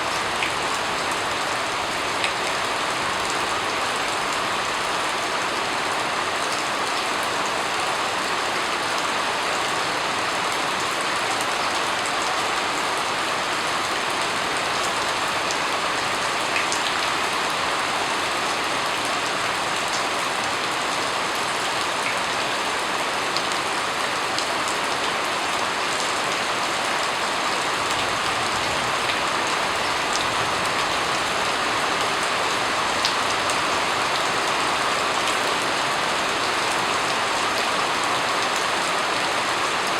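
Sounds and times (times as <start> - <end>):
rain falling on surface: 0.0 - 39.9.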